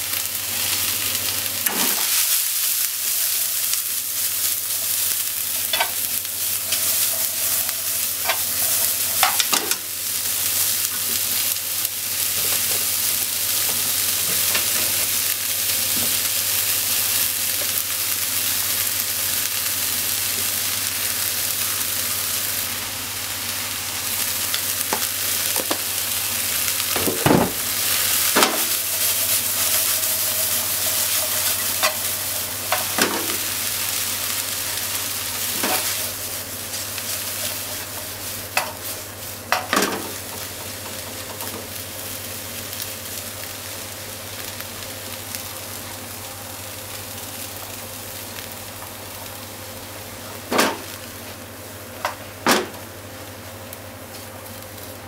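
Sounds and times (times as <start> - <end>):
leeks sizzling in frying pan: 0.0 - 55.0.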